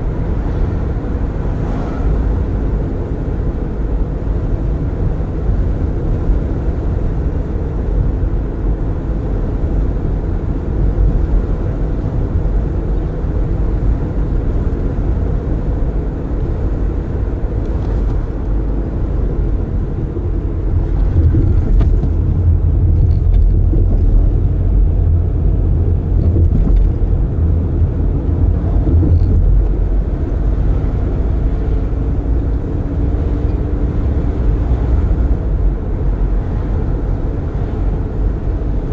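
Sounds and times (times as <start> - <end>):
tyre and wind rumble in car: 0.0 - 38.9.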